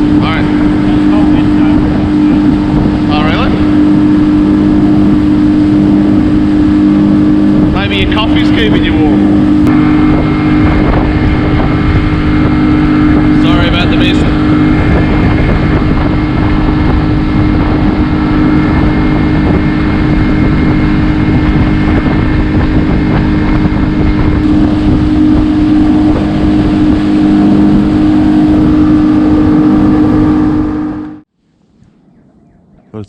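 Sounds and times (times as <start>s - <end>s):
outboard motor running: 0.0s - 33.0s.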